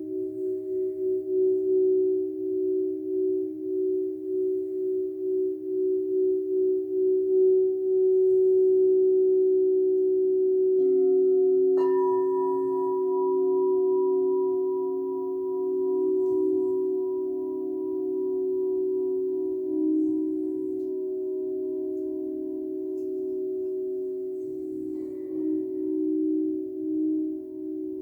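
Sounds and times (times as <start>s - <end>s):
bowl struck: 0.0s - 28.0s
crystal singing bowls ringing: 0.0s - 28.0s.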